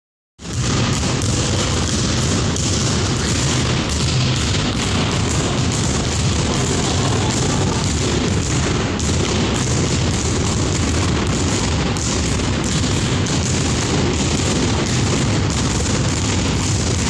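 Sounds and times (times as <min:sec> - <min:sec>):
basketballs bouncing on wood: 0:00.4 - 0:17.0.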